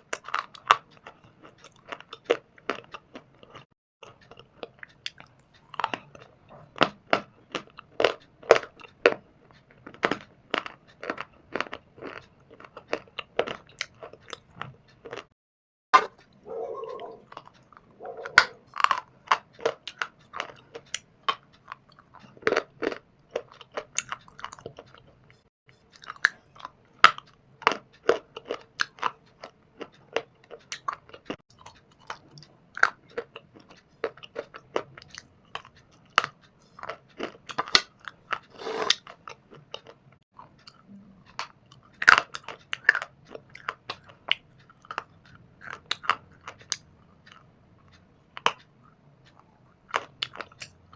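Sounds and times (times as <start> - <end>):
crunchy biting and chewing: 0.0 - 15.4, 16.0 - 50.9.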